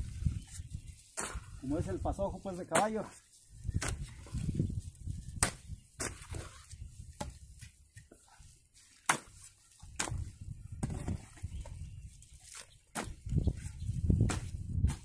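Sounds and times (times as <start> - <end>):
hoe chopping wet mud: 1.0 - 1.9, 2.5 - 4.6, 5.2 - 11.7, 12.4 - 15.0.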